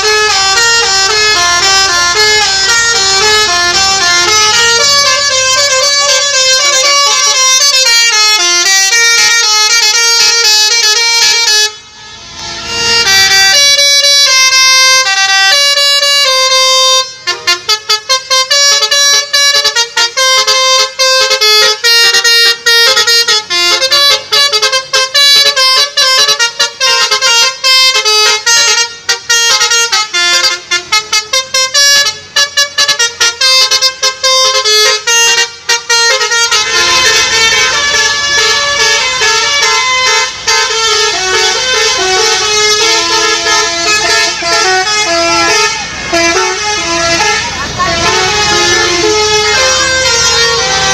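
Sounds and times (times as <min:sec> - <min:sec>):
musical bus horn melody: 0:00.0 - 0:50.9.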